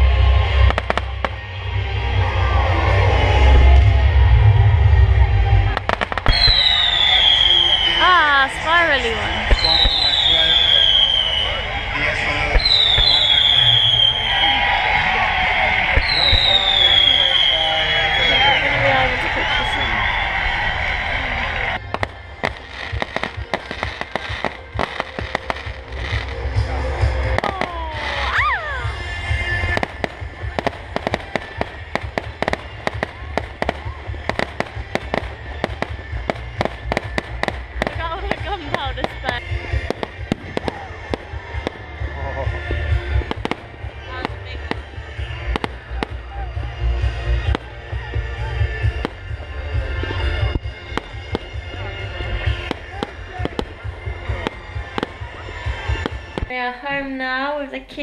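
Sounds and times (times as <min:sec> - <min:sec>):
deep low rumble: 0:00.0 - 0:57.4
fireworks bursting: 0:00.1 - 0:03.8, 0:04.5 - 0:57.3.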